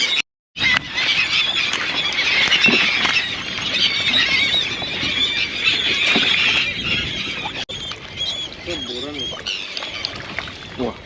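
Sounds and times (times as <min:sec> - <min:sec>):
seabirds squealing: 0:00.0 - 0:11.0.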